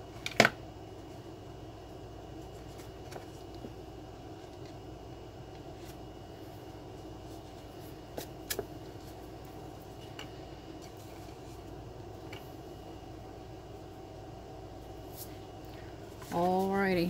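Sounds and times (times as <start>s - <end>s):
background hum: 0.0s - 17.0s.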